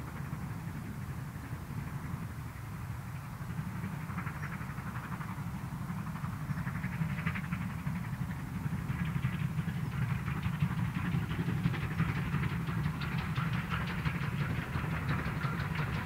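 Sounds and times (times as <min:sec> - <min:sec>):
distant steam locomotive rumble: 0:00.0 - 0:16.0.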